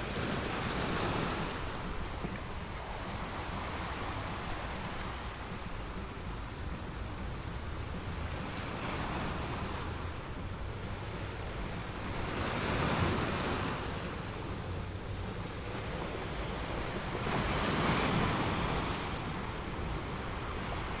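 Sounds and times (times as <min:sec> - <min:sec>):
sea waves: 0:00.0 - 0:21.0
wind: 0:00.0 - 0:21.0.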